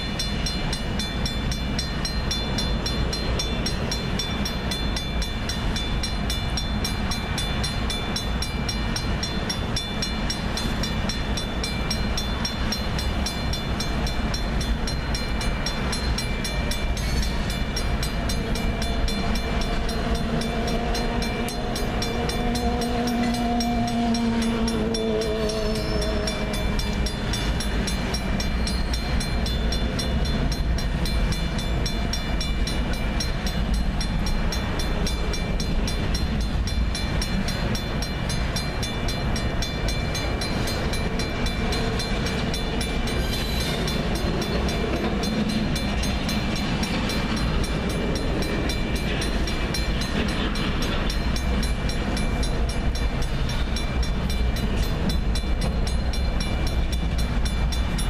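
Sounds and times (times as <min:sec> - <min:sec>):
crossing warning bell ringing: 0:00.0 - 0:58.0
train wheels rumbling on rail: 0:00.0 - 0:58.0.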